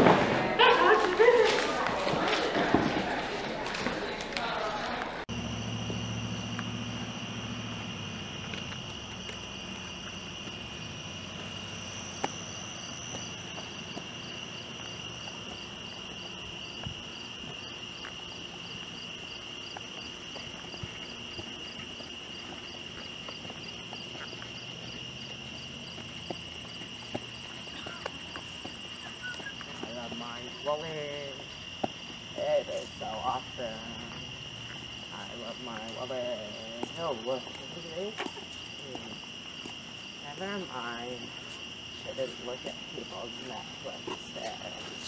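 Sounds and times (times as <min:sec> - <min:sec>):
crickets trilling: 0:05.3 - 0:45.0.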